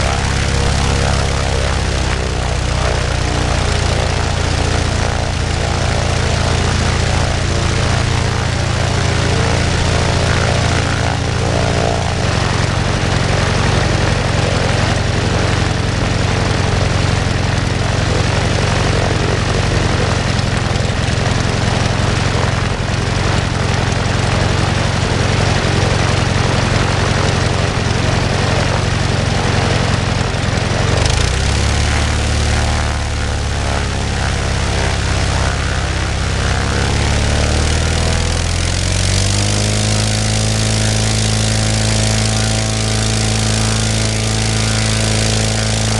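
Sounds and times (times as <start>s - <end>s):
small propeller engine running: 0.0s - 45.9s.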